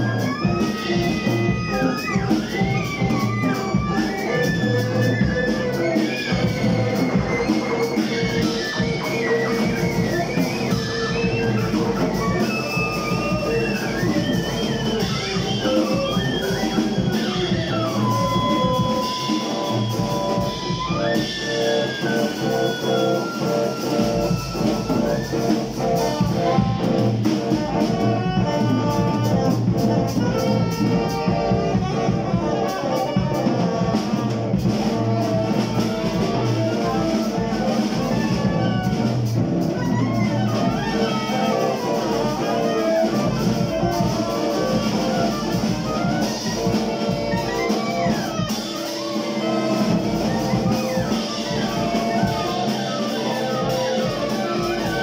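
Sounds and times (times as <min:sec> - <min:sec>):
drum kit: 0:00.0 - 0:55.0
electric guitar: 0:00.0 - 0:55.0
saxophones playing: 0:00.0 - 0:55.0.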